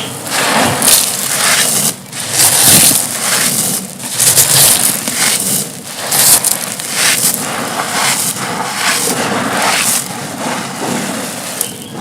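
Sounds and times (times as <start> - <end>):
concrete chunks crunching: 0.0 - 11.9.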